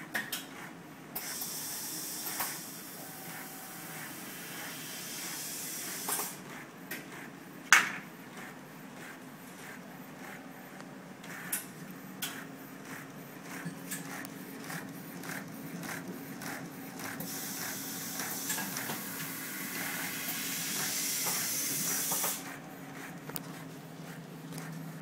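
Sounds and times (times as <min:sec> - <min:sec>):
printer machine hum: 0:00.7 - 0:25.0.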